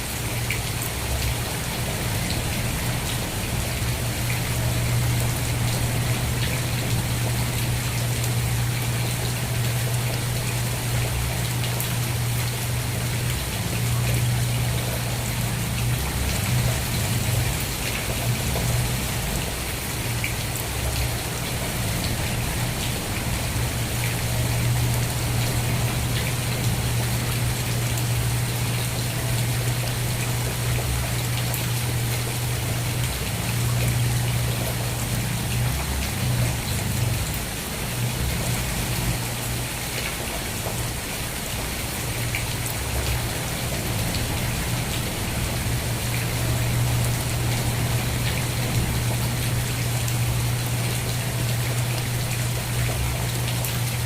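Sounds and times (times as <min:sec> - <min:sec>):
rain falling: 0:00.0 - 0:54.0
raindrops ticking: 0:00.4 - 0:54.0.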